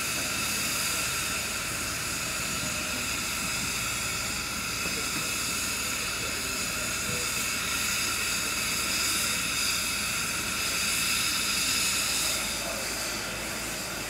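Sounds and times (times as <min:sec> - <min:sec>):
steam locomotive safety valves hissing: 0:00.0 - 0:14.0.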